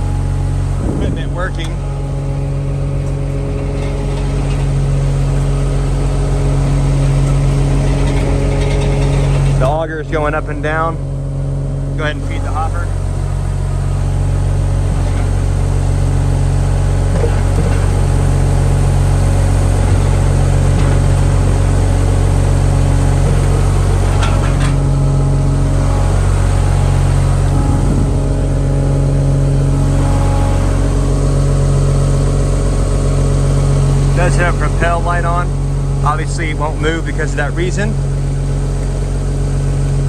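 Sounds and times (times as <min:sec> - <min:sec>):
diesel engine droning: 0:00.0 - 0:40.0.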